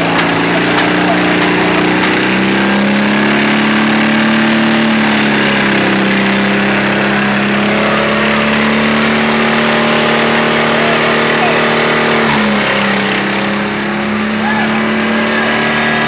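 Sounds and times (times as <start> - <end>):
lawn mower engines droning: 0.0 - 16.0.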